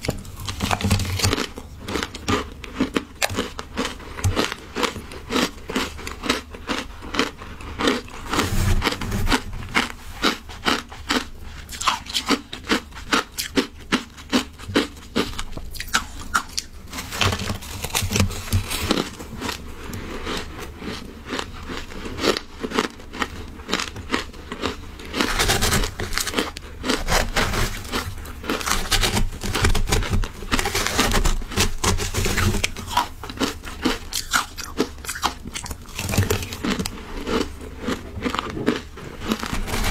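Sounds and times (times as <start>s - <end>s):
crunching and chewing shaved ice: 0.0s - 39.9s.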